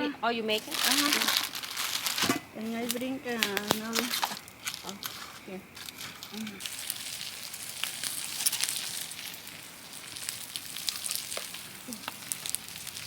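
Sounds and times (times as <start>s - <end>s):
campfire crackling and popping: 0.4s - 13.0s.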